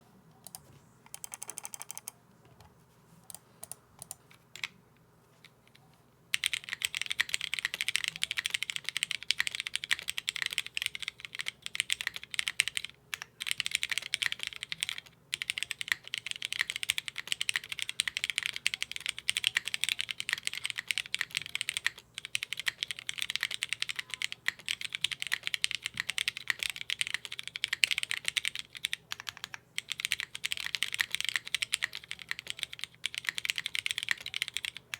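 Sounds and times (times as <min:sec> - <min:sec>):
mechanical keyboard typing: 0:00.4 - 0:02.2, 0:06.3 - 0:34.9.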